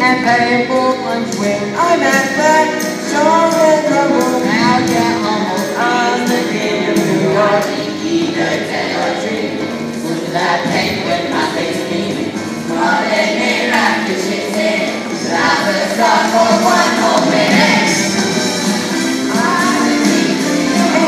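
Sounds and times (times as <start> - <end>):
percussion: 0.0 - 21.0
voices singing together: 0.0 - 21.0.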